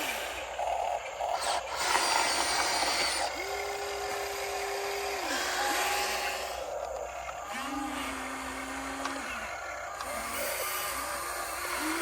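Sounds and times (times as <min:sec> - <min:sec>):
electric motor whining: 0:01.3 - 0:12.0.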